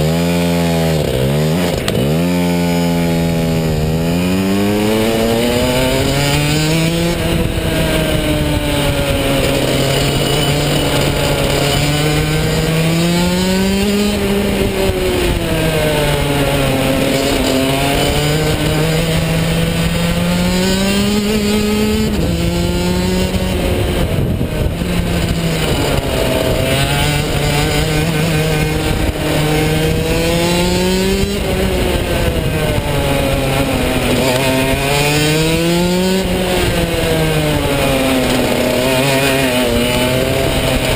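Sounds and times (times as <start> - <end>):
kart two-stroke engine racing: 0.0 - 40.9.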